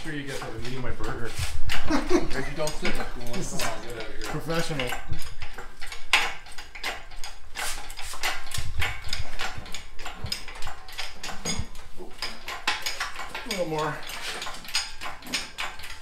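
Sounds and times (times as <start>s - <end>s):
metal knocks and clanks: 0.0s - 16.0s.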